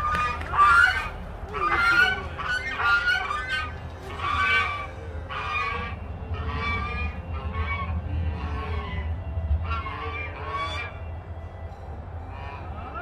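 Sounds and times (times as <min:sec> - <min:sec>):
geese honking: 0:00.0 - 0:11.4, 0:12.3 - 0:13.0.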